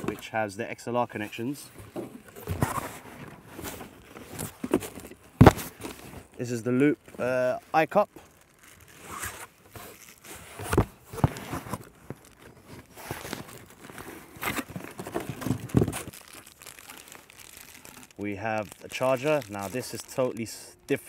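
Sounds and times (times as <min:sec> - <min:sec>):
cardboard packing handled: 0:01.1 - 0:21.0
plastic packaging crinkling: 0:02.3 - 0:21.0.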